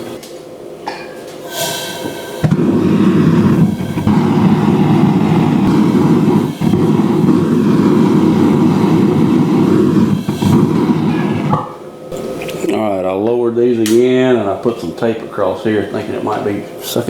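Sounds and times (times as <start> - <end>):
gas burners rushing: 1.3 - 17.0.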